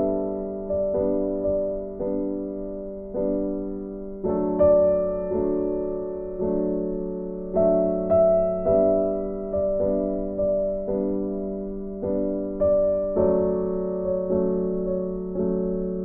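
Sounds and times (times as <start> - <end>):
slow gentle piano: 0.0 - 16.0.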